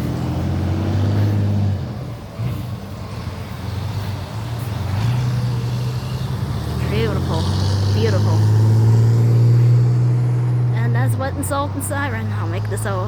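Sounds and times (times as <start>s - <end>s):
vehicles passing close by: 0.0s - 13.0s.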